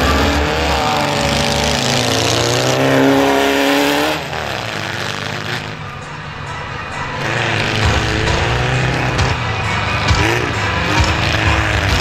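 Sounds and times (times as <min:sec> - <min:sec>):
buggy engine revving: 0:00.0 - 0:12.0.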